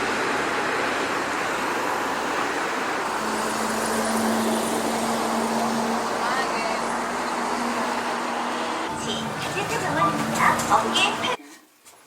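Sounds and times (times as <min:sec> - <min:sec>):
passing street traffic: 0:00.0 - 0:11.4.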